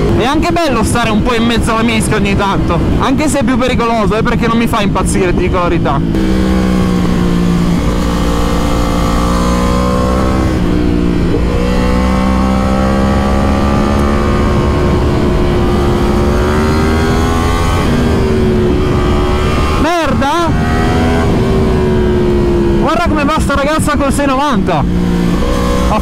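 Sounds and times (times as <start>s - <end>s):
motorcycle engine running: 0.0s - 26.0s
wind rush: 0.0s - 26.0s.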